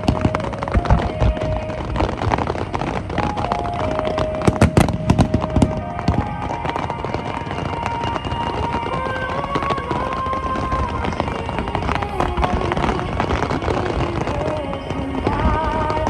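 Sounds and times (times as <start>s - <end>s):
fireworks bursting: 0.0s - 16.0s
music with long held notes: 0.0s - 16.0s.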